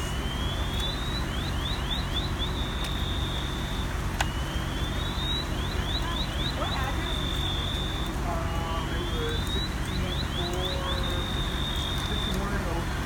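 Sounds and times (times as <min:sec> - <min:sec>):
electronic alarm whooping and chirping: 0:00.0 - 0:12.6.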